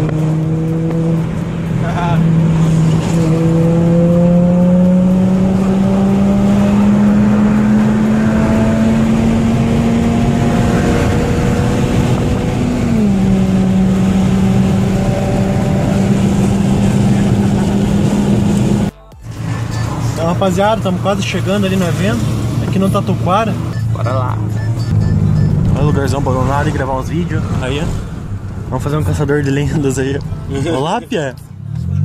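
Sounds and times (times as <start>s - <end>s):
car engine drone: 0.0s - 32.0s
road noise: 0.0s - 32.0s.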